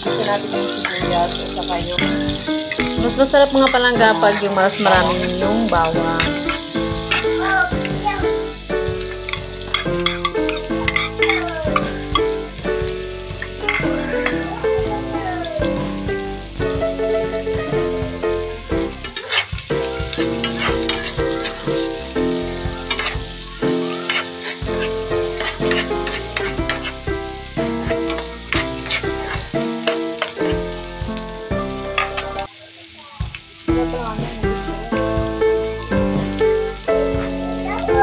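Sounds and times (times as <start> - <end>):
background music: 0.0 - 32.6, 33.4 - 38.0
onion and garlic sizzling: 0.0 - 38.0.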